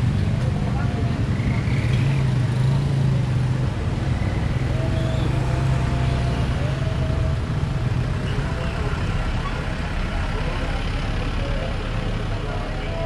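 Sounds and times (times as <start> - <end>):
vehicles passing: 0.0 - 13.0.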